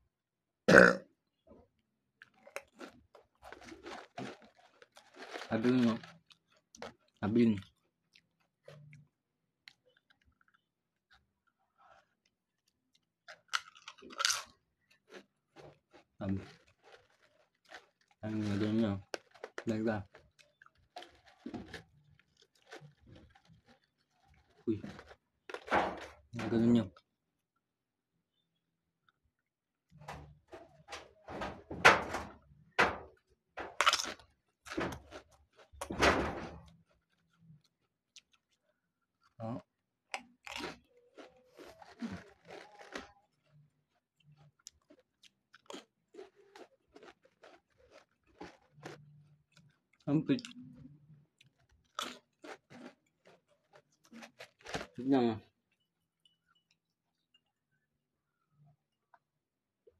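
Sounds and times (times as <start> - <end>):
potato chip crunching: 2.2 - 27.0, 29.9 - 55.2.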